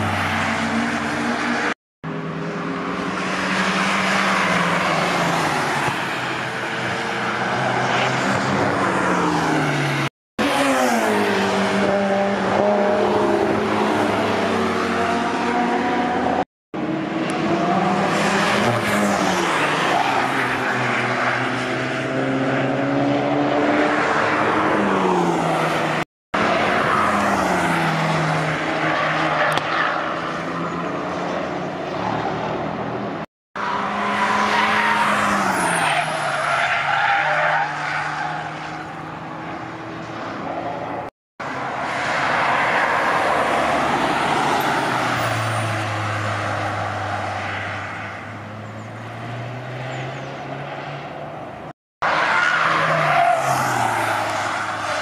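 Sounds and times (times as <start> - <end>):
cars driving fast past: 0.0 - 55.0
tyre and road noise: 0.0 - 55.0.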